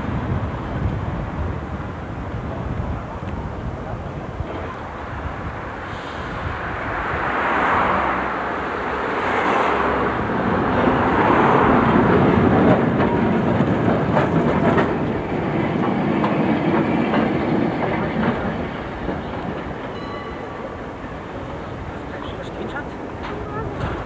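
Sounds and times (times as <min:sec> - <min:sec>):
tram passing on rails: 0:00.0 - 0:24.0
tram wheels clacking over track: 0:02.2 - 0:24.0.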